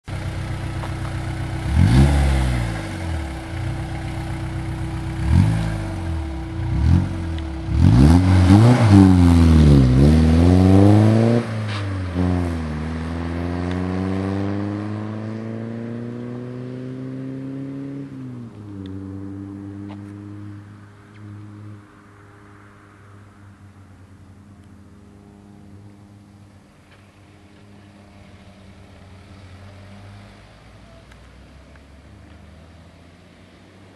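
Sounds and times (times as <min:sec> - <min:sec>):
diesel engine idling and revving: 0:00.1 - 0:33.9.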